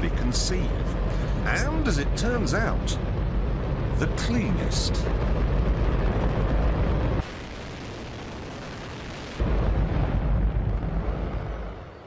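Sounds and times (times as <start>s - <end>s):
rocket engine roaring: 0.0s - 12.0s.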